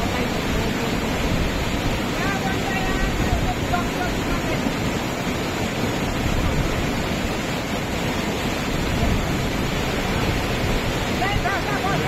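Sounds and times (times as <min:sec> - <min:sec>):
rushing white water: 0:00.0 - 0:12.0.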